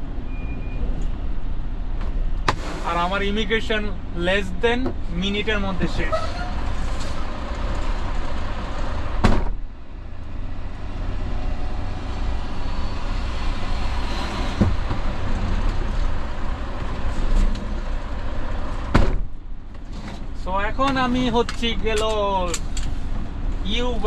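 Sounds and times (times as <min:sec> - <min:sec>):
truck engine rumble: 0:00.0 - 0:24.0.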